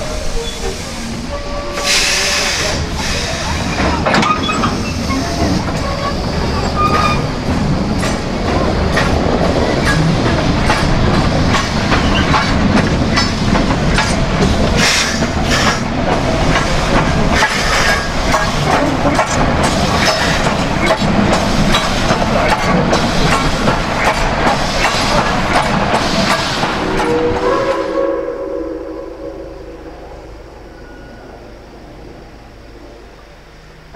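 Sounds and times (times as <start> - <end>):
steam train rumbling: 0.0 - 33.9.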